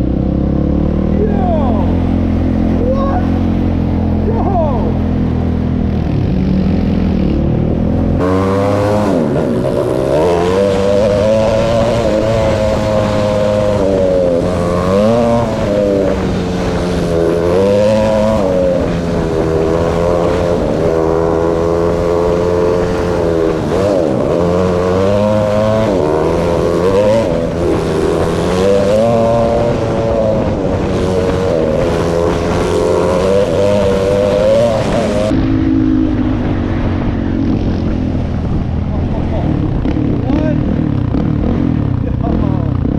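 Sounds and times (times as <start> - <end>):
quad engine revving: 0.0 - 42.9.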